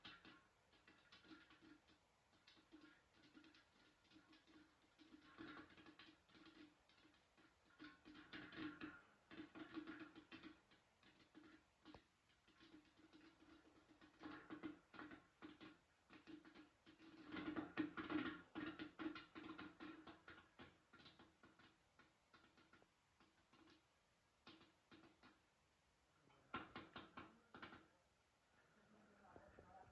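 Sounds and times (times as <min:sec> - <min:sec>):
popcorn popping: 0:00.0 - 0:25.6, 0:26.3 - 0:28.0.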